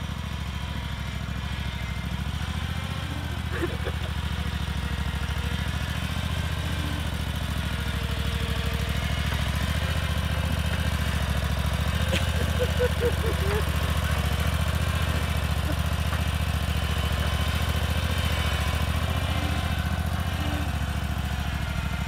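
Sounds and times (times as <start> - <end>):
backhoe engine running: 0.0 - 22.0.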